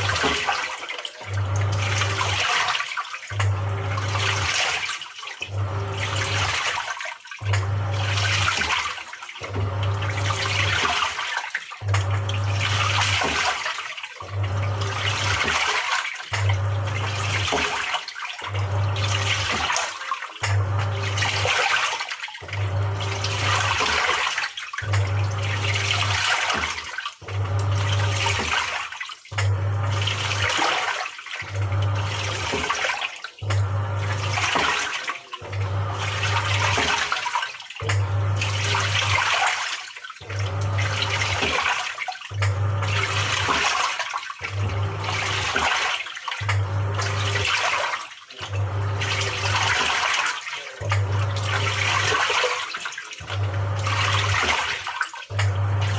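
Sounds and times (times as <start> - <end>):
washing machine motor humming: 0.0 - 55.9
water sloshing: 0.0 - 55.9.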